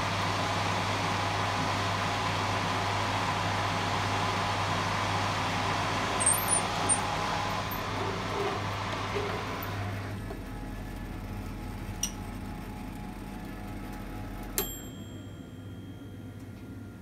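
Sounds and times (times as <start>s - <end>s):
oven fan humming: 0.0s - 17.0s.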